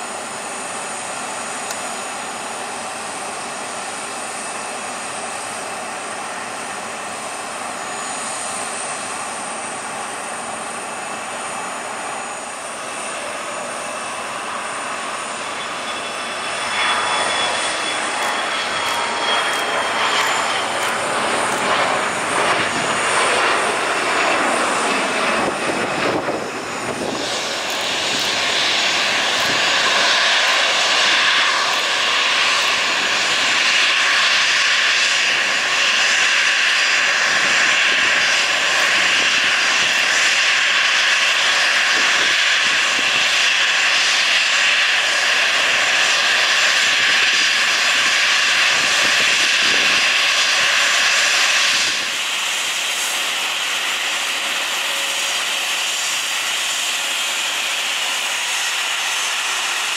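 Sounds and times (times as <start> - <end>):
jet engines whining at taxi: 0.0 - 59.9.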